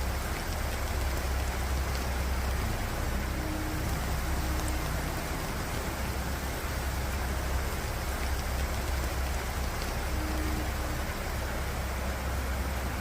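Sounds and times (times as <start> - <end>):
heavy rain: 0.0 - 13.0
low steady rumble: 0.0 - 13.0.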